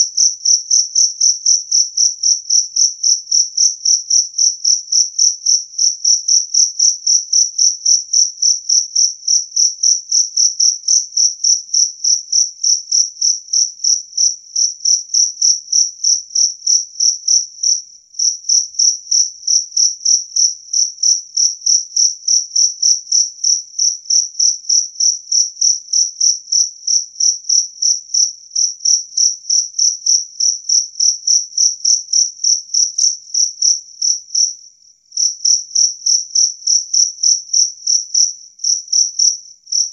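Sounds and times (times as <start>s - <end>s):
field cricket chirping: 0.0s - 39.9s.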